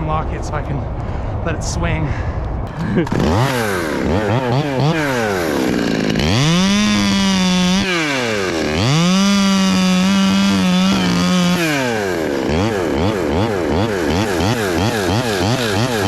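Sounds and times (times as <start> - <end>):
chainsaw revving and cutting wood: 2.7 - 16.0.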